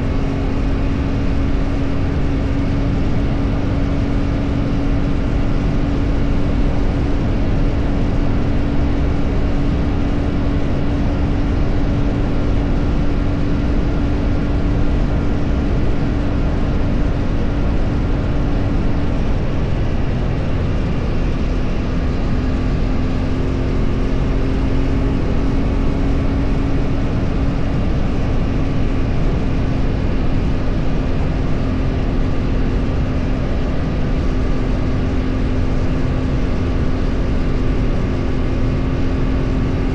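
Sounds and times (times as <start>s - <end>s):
road and wind rumble: 0.0s - 39.9s
vehicle engine drone: 0.0s - 39.9s.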